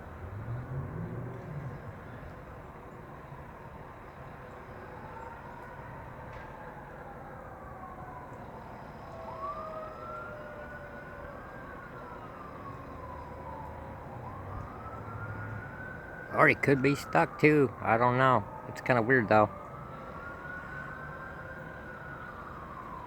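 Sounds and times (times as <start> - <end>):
emergency vehicle siren wailing: 0.0 - 23.0.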